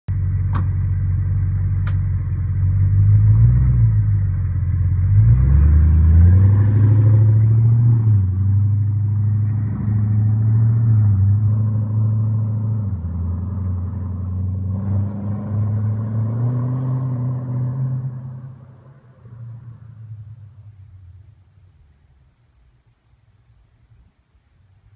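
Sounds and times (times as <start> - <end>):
car engine revving without exhaust: 0.2 - 20.9.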